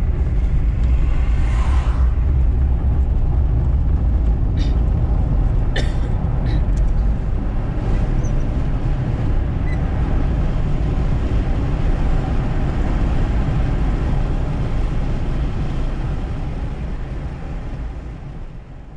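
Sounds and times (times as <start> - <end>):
car engine and tyre rumble: 0.0 - 18.9.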